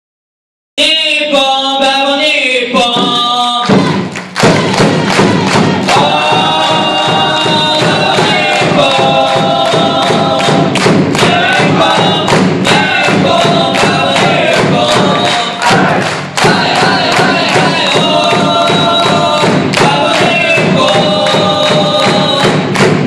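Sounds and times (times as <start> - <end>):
rhythmic clapping and thumps: 2.8 - 23.0
crowd singing a chant: 3.0 - 23.0.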